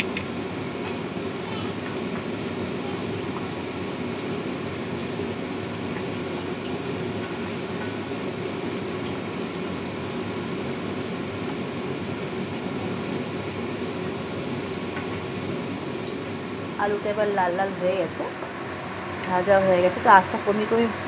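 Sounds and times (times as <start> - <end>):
potatoes sizzling in hot oil: 1.7 - 21.0.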